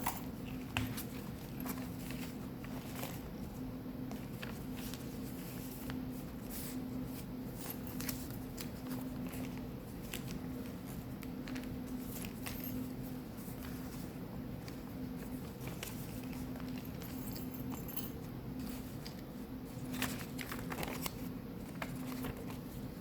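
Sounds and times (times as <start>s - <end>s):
steady low hum: 0.0s - 23.0s
paper pages rustling: 0.4s - 17.1s, 18.6s - 23.0s.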